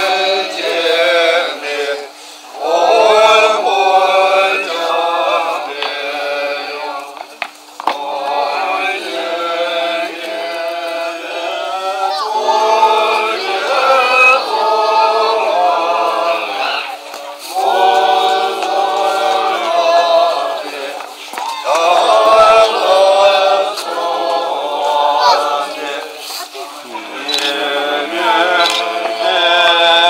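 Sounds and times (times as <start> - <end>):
group chanting prayer in unison: 0.0 - 30.0.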